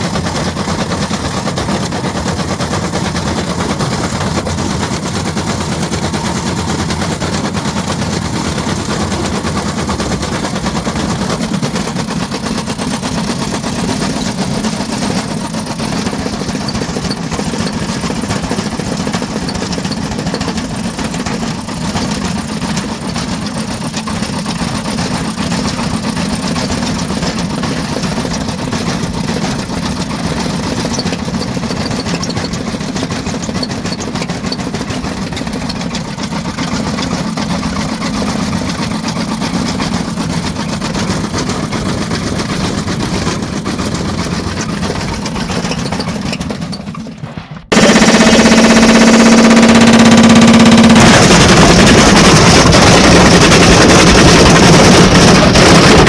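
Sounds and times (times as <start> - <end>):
washing machine drum hum: 0.0 - 56.0.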